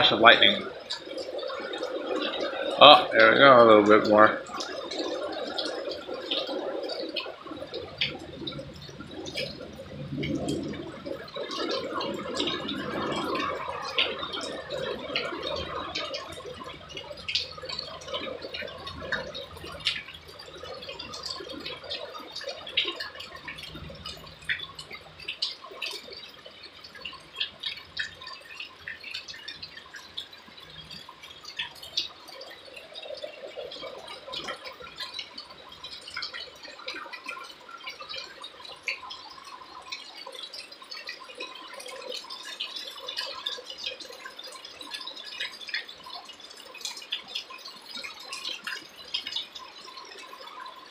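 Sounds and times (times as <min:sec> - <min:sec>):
rain drops pattering: 0:00.0 - 0:50.9.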